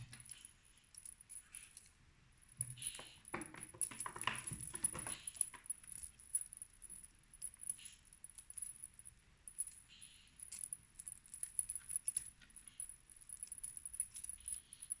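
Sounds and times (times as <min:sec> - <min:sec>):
jingling rattles: 0:00.0 - 0:15.0.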